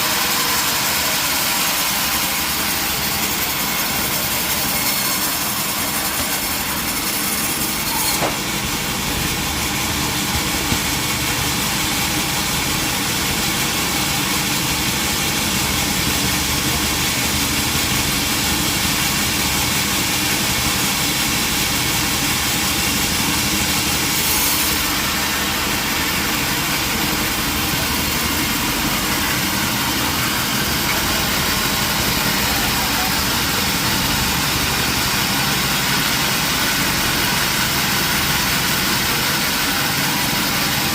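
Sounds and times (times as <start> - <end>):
sawmill engine droning: 0.0 - 40.9.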